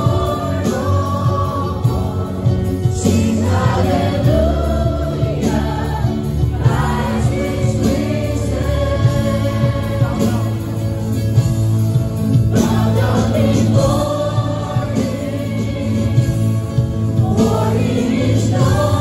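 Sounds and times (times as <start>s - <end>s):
voices singing together: 0.0s - 19.0s
worship band with keyboards: 0.0s - 19.0s.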